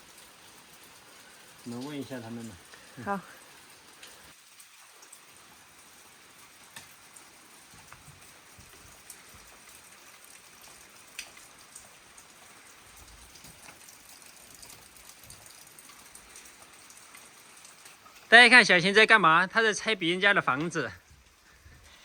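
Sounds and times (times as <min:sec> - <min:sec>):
drips ticking: 0:00.0 - 0:22.0
light rain falling: 0:00.0 - 0:22.0.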